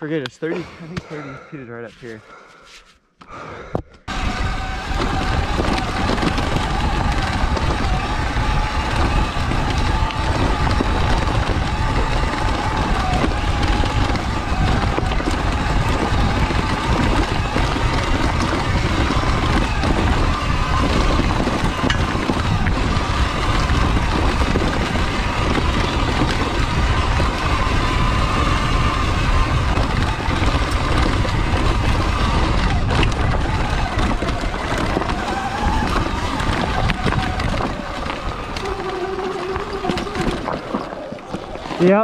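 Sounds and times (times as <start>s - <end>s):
wind rushing: 4.1s - 40.7s
electric motor whine: 4.1s - 42.0s.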